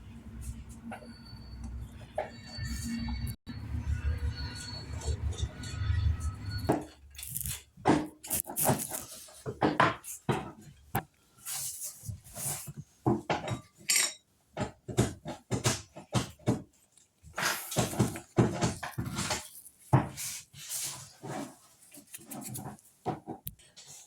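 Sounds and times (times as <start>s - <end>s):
clinks and scrapes of tools: 0.4s - 10.8s, 11.4s - 16.6s, 17.4s - 24.0s.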